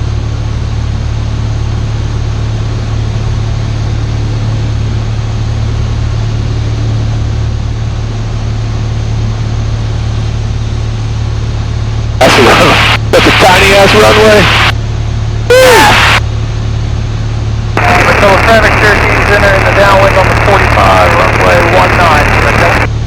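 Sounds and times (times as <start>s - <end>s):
plane engine droning in cabin: 0.0s - 23.0s.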